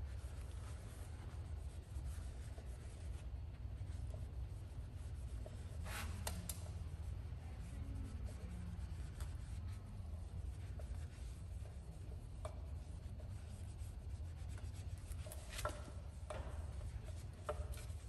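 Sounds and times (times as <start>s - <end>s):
cloth rubbing on metal wheel: 0.0s - 18.0s
steady low hum: 0.0s - 18.0s.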